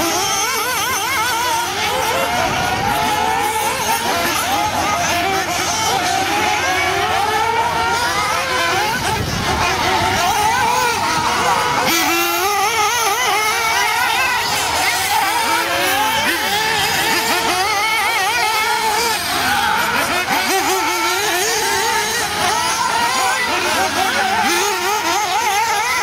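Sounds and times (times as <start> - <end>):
model car engines whining: 0.0 - 26.0.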